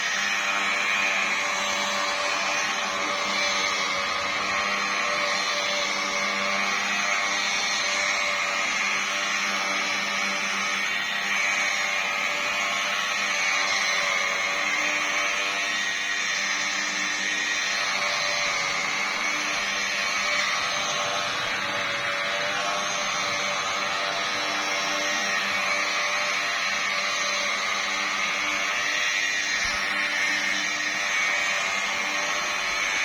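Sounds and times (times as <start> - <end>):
car polisher motor whining: 0.0 - 33.0.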